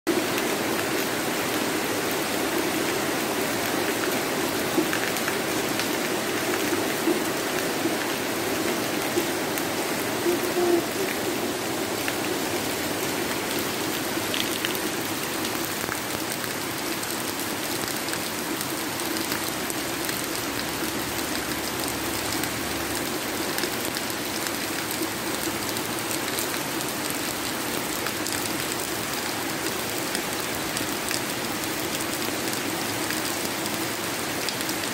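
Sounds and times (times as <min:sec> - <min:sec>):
heavy rain on pavement and foliage: 0:00.1 - 0:34.9.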